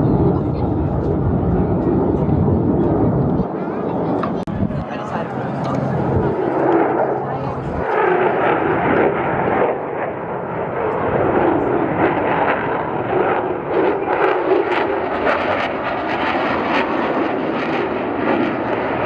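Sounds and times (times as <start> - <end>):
aircraft engine rushing: 0.0 - 19.0.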